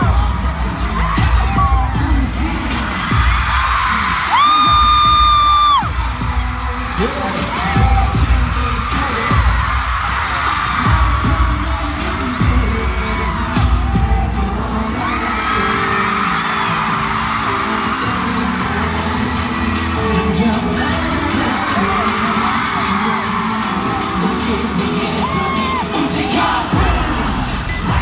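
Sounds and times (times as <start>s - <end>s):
audience shrieking and cheering: 0.0s - 28.0s
pop song over sound system: 0.0s - 28.0s.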